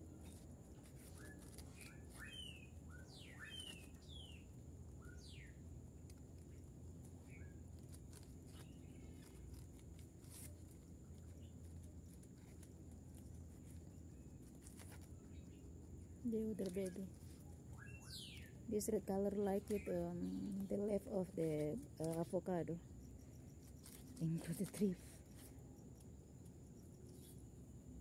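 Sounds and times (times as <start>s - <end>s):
faint bird chirps: 0.1s - 5.6s, 6.4s - 7.9s, 11.1s - 28.0s.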